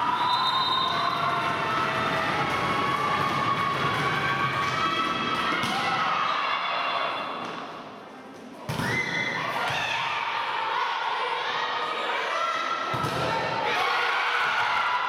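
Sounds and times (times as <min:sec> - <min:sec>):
voices shouting in a hall: 0:00.0 - 0:08.0, 0:08.7 - 0:15.0.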